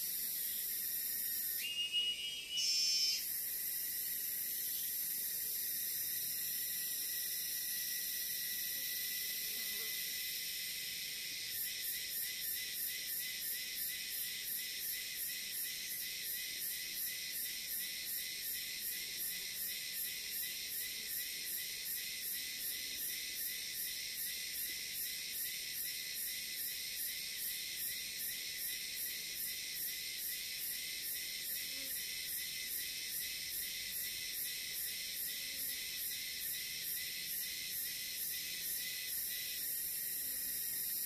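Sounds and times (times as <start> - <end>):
insect chirp: 0.0 - 41.0
insects buzzing: 0.0 - 41.0.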